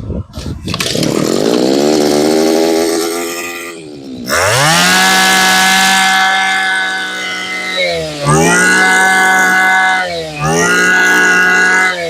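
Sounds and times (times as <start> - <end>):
brush cutter engine revving: 0.6 - 12.0.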